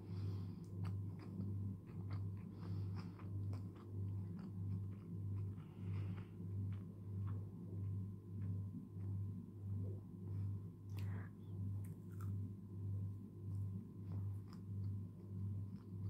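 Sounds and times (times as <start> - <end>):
close chewing of fried food: 0.1 - 11.1, 13.4 - 16.0.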